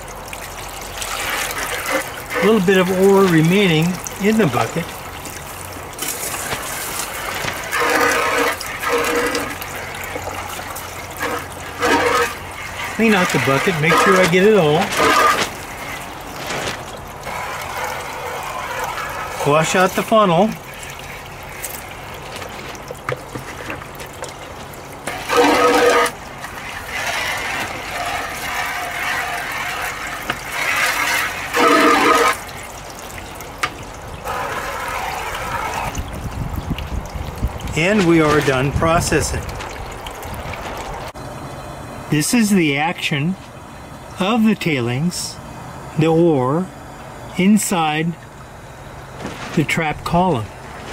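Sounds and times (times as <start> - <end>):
water from hose rushing into bucket: 0.0 - 41.2, 49.1 - 50.9.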